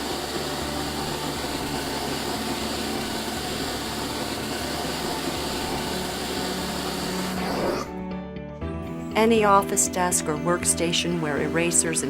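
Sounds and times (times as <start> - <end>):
vacuum motor hum: 0.0 - 8.1, 9.4 - 12.0.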